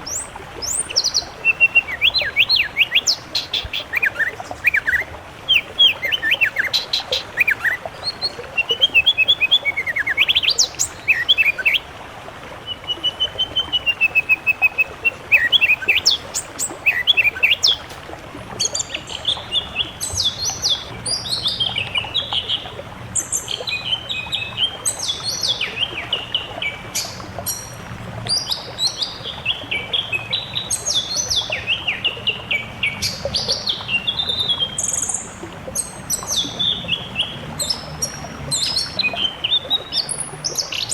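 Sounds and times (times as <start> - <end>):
songbirds singing: 0.0 - 12.0, 12.6 - 40.9.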